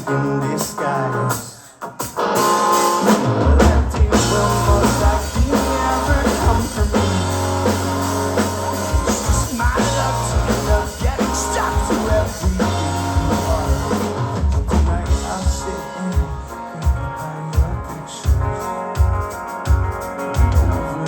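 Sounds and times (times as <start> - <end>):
drum kit: 0.0 - 21.0
electric guitar: 0.0 - 21.0
bass guitar: 2.3 - 21.0.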